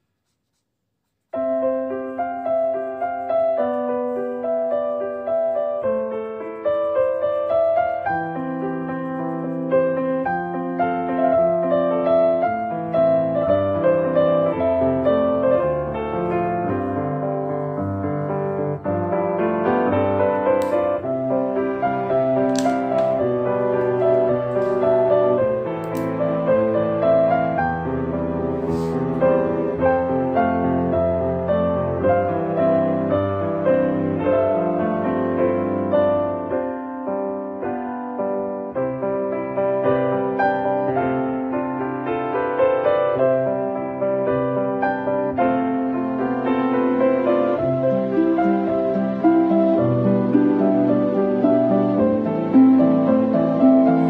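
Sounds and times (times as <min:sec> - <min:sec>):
piano music: 0:01.3 - 0:54.0.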